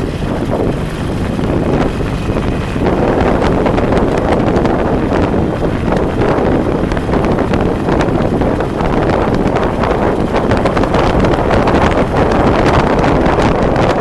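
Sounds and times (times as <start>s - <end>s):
gust crackles on microphone: 0.0s - 14.0s
vehicle and road rumble: 0.0s - 14.0s
wind buffeting microphone: 0.0s - 14.0s.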